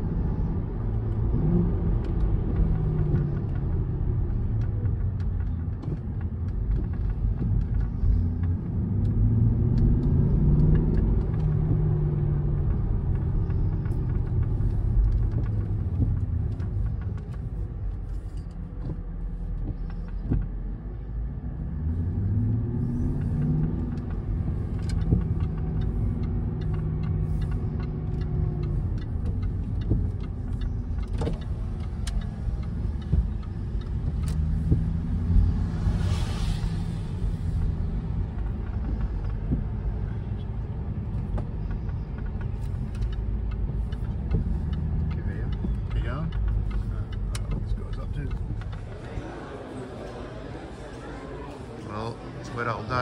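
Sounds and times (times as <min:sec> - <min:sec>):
car engine from inside cabin: 0:00.0 - 0:53.0
road noise rumble: 0:00.0 - 0:53.0.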